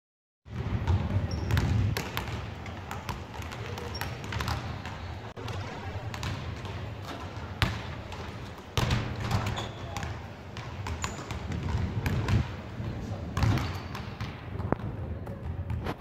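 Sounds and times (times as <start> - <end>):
basketballs bouncing on wooden floor: 0.5 - 15.8.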